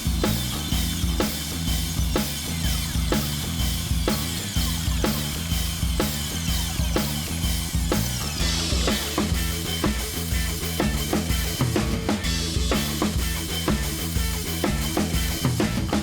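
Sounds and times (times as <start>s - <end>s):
bass line: 0.0s - 16.0s
drum-kit beat: 0.0s - 16.0s.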